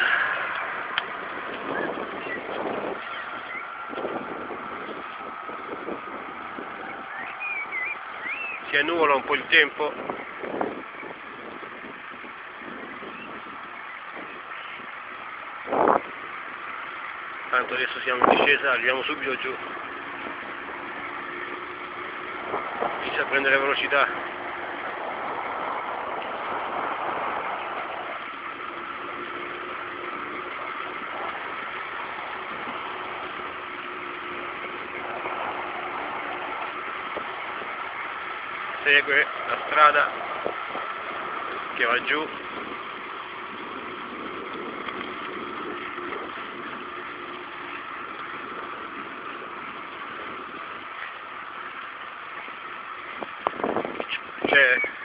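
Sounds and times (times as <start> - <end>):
wind rushing: 0.0 - 18.8, 19.4 - 47.3
bicycle tyre noise: 0.0 - 55.0
road noise: 0.0 - 55.0.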